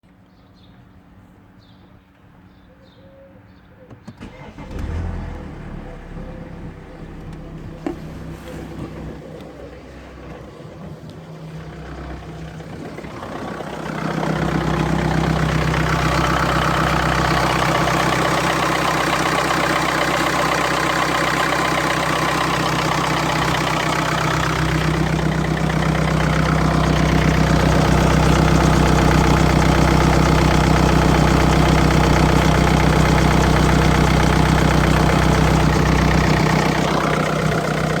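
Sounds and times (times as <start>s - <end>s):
diesel engine idling: 4.2s - 38.0s.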